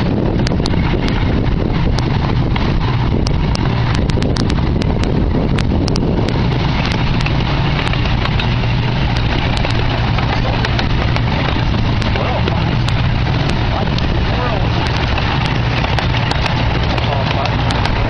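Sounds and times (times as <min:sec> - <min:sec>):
miniature train engine humming: 0:00.0 - 0:18.0
wheels clicking on track: 0:00.0 - 0:18.0.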